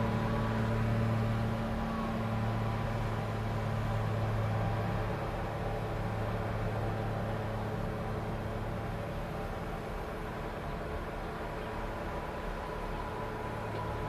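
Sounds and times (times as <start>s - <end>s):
diesel engine under load: 0.0s - 14.0s.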